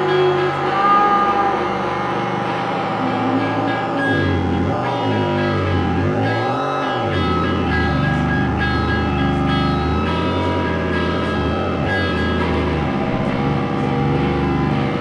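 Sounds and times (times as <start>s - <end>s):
low drone: 0.0s - 15.0s
sustained noise music tones: 0.0s - 15.0s.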